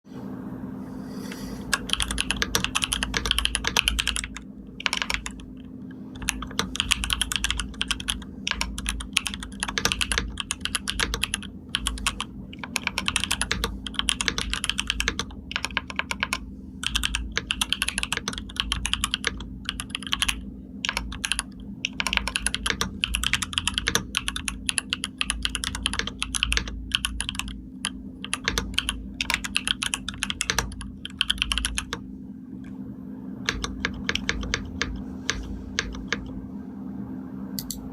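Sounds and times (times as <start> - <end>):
steady low hum: 0.0 - 37.9
keyboard typing: 1.7 - 32.7, 33.4 - 36.4, 37.6 - 37.9.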